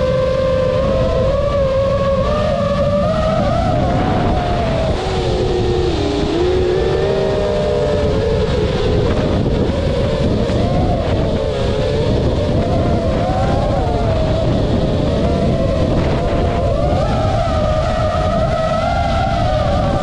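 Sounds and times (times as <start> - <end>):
drone propellers whining: 0.0 - 20.0
low rushing noise: 0.0 - 20.0.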